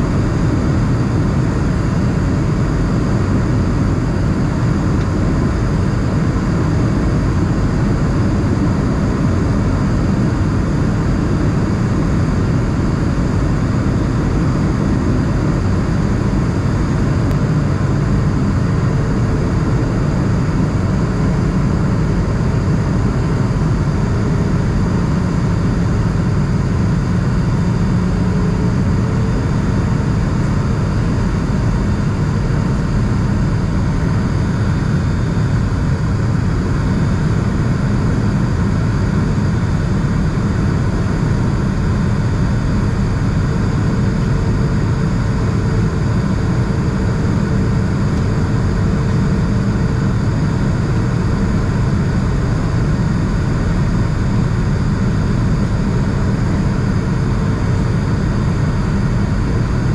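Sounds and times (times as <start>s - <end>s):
airplane cabin engine drone: 0.0s - 59.9s.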